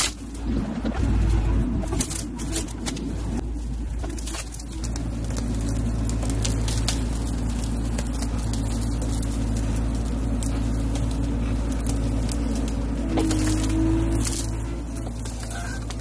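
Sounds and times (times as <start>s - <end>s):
branches crackling and snapping: 0.0s - 16.0s
diesel engine running under load: 0.0s - 16.0s.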